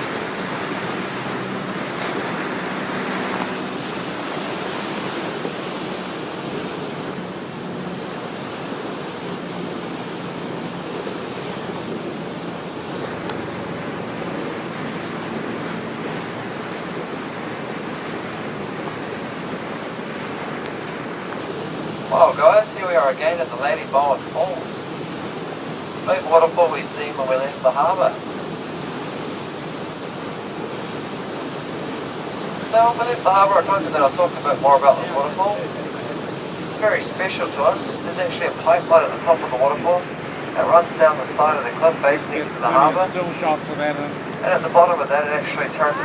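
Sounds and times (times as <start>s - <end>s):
waterfall rushing: 0.0s - 46.0s
wind: 0.0s - 46.0s.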